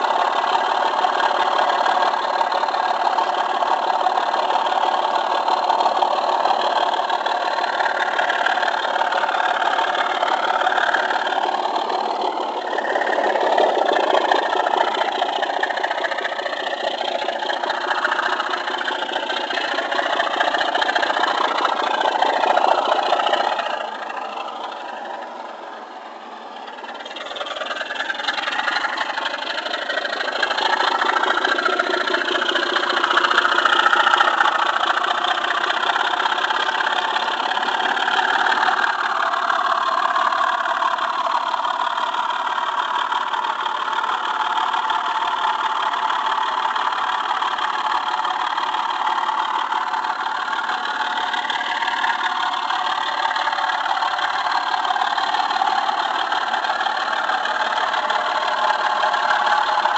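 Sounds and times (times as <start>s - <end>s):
model train wheels rumbling: 0.0s - 59.9s.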